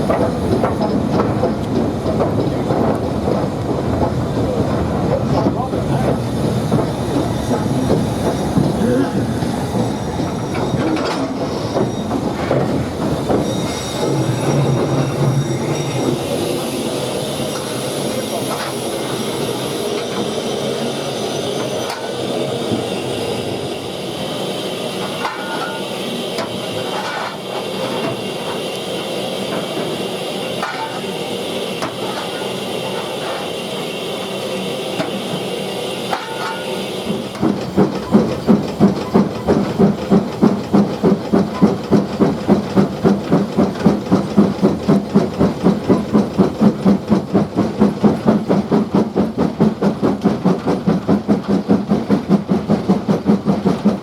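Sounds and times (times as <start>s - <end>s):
locomotive chuffing: 0.0s - 54.0s
steam locomotive hissing: 0.0s - 54.0s.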